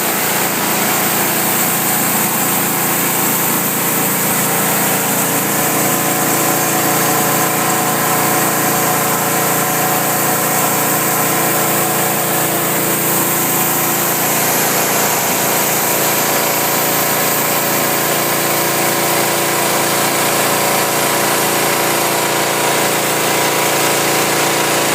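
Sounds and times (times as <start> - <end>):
high-pressure water spray hissing: 0.0 - 24.9
pressure washer engine hum: 0.0 - 24.9.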